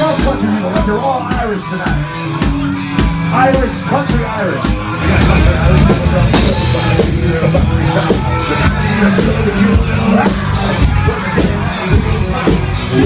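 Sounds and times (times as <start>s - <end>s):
live rock band playing: 0.0s - 13.0s
loud bass: 0.0s - 13.0s
loud drums: 0.0s - 13.0s.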